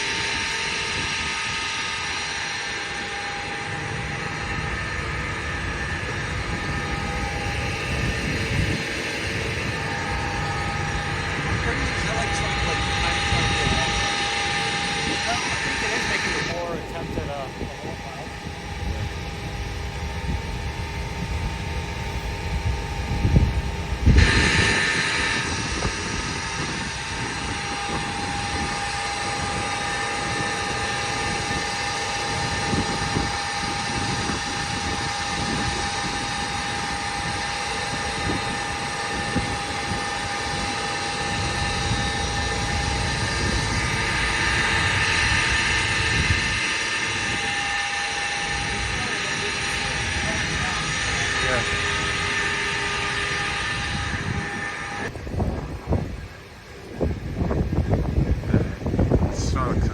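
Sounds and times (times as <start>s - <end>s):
gusty wind: 0.0s - 59.9s
wind buffeting microphone: 0.0s - 59.9s.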